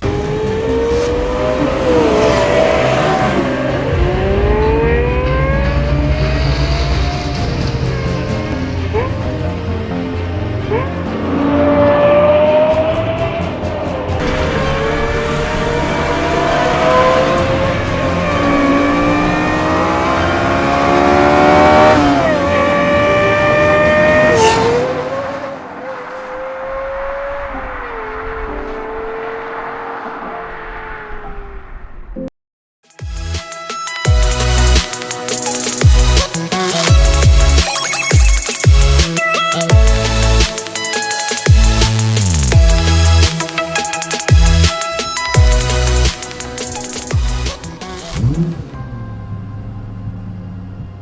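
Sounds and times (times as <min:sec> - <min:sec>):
car engine accelerating hard: 0:00.0 - 0:32.1, 0:39.8 - 0:51.0.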